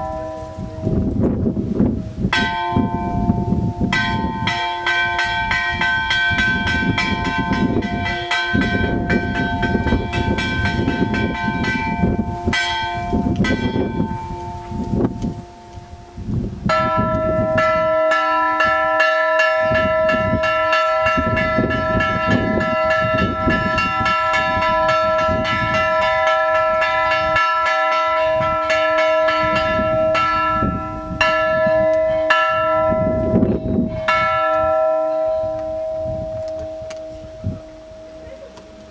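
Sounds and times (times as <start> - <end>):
church bells chiming: 0.0 - 1.5, 2.3 - 38.9.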